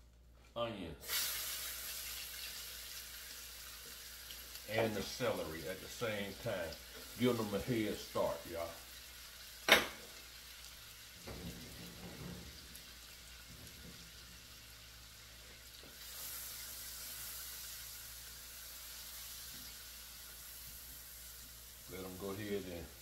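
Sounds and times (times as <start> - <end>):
vegetables sizzling in a pan: 1.0 - 23.0.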